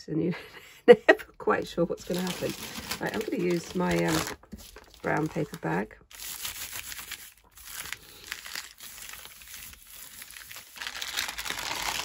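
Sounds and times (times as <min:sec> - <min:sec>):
paper bag crinkling: 0:02.0 - 0:12.0.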